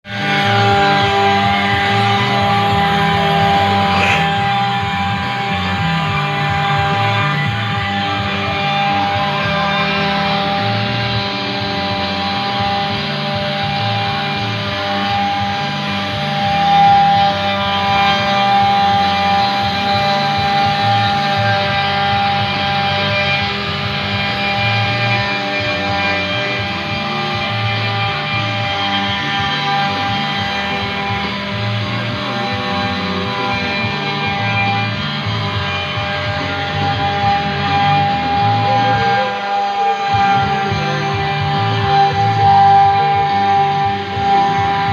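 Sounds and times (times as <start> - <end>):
rock music with electric guitar: 0.0 - 44.9.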